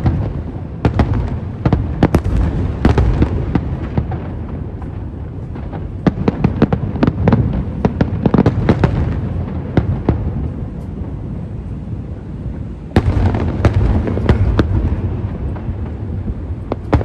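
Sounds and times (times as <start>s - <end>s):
continuous low rumble: 0.0s - 17.0s
fireworks bangs and crackles: 0.0s - 17.0s.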